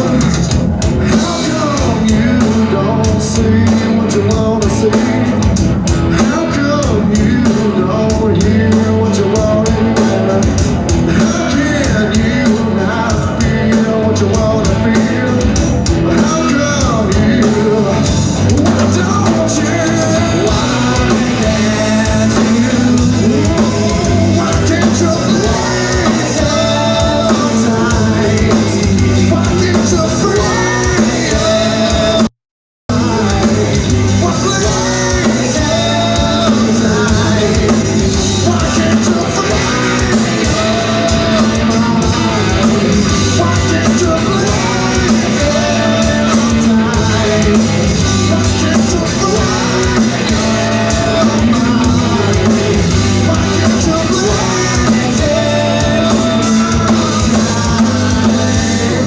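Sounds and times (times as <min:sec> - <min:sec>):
bass guitar: 0:00.0 - 0:32.3, 0:32.9 - 0:59.0
electric guitar: 0:00.0 - 0:32.3, 0:32.9 - 0:59.0
person singing: 0:00.0 - 0:32.3, 0:32.9 - 0:59.0
drums: 0:00.0 - 0:59.0.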